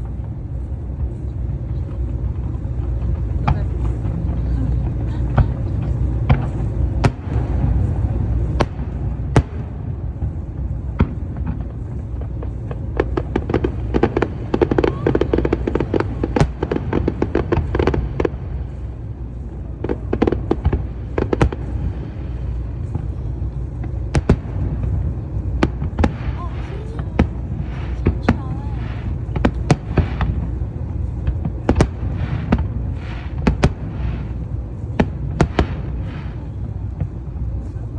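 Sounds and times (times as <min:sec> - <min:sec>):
fireworks bursting and crackling: 0:00.0 - 0:37.9
low rumble: 0:00.0 - 0:37.9.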